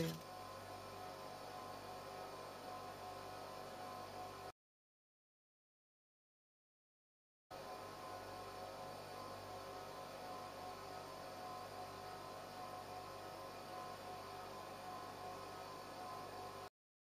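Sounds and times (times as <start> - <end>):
machine hum with held tones: 0.0 - 4.5, 7.5 - 16.7.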